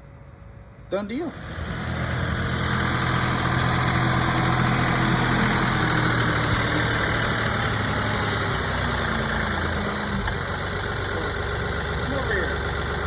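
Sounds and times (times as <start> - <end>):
tractor diesel engine running: 1.2 - 13.0.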